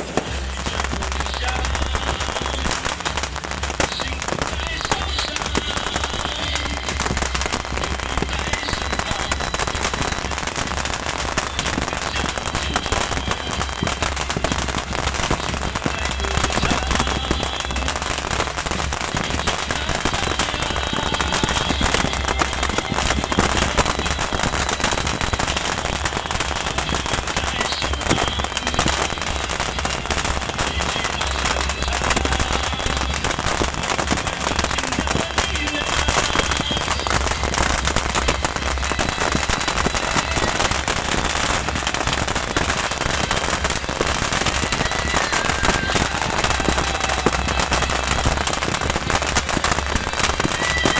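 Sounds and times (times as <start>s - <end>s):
fireworks crackling: 0.0s - 50.9s.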